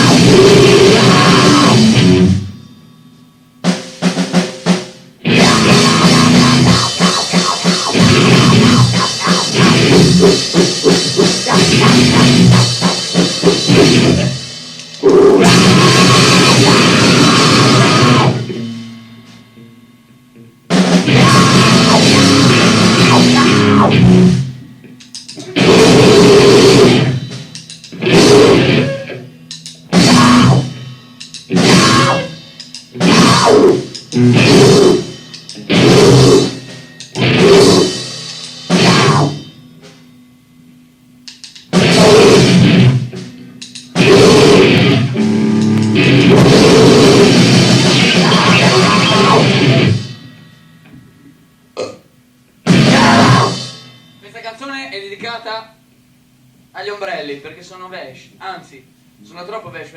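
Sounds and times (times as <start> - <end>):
distorted punk drums and guitar: 0.0 - 2.8, 3.5 - 55.6.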